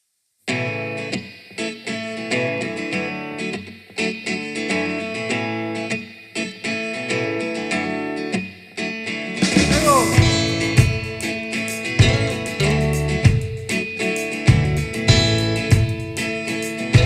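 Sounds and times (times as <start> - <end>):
guitar playing chords: 0.5 - 17.0.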